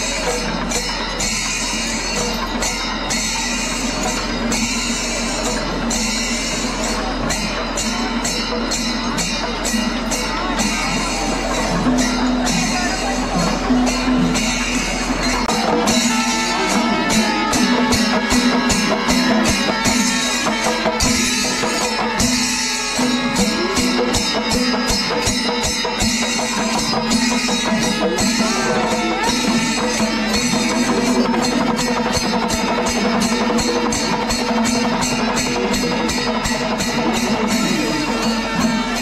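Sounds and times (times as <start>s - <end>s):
cymbals clashing: 0.0s - 39.0s
drums playing fast rhythm: 0.0s - 39.0s.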